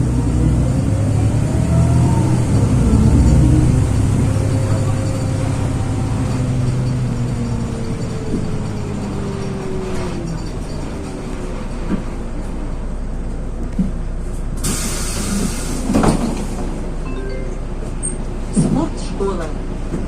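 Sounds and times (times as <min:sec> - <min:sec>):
bus engine slowing down: 0:00.0 - 0:20.0.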